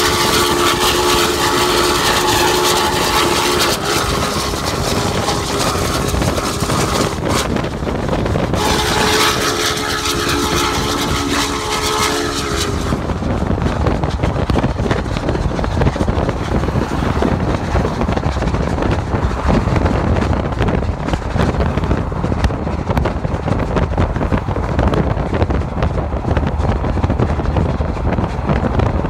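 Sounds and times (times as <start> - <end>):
car tyre and road noise: 0.0 - 29.0
wind buffeting microphone: 0.0 - 29.0.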